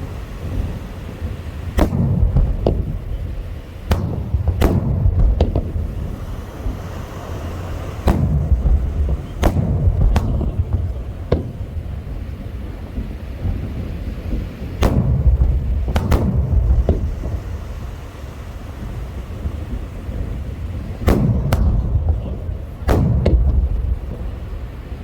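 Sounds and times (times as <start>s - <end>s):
low rumble: 0.0s - 25.0s
firework shells bursting: 0.5s - 25.0s.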